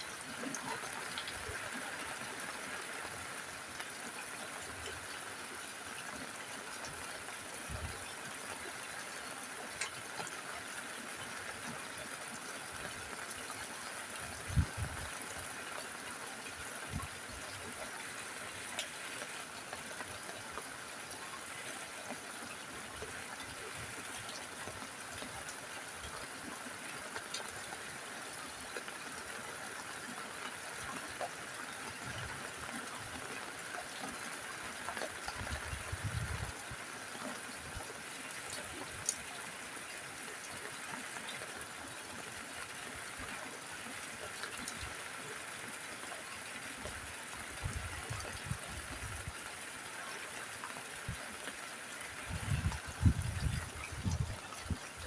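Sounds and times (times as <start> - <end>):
rain on a rooftop: 0.0 - 55.0.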